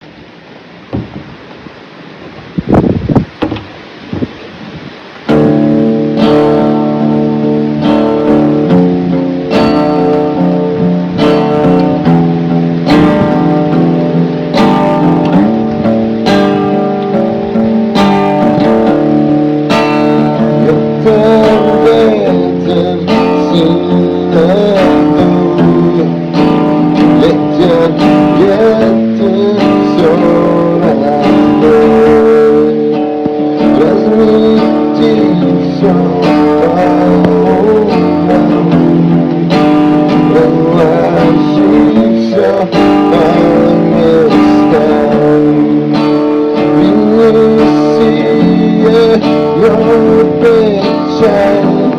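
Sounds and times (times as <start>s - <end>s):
strummed acoustic guitar: 0.8s - 51.9s.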